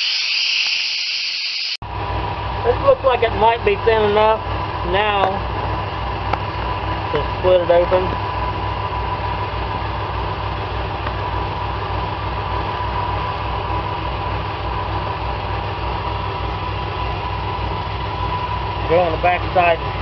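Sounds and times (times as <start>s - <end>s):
mechanical hum with low throb: 1.8s - 20.0s
faint constant whine: 1.9s - 20.0s.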